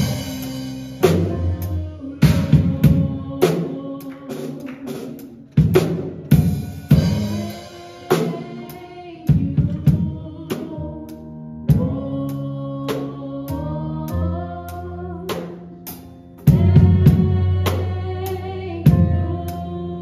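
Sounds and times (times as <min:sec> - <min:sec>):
acoustic drum kit playing: 0:00.0 - 0:20.0
electric keyboard chords: 0:00.0 - 0:20.0.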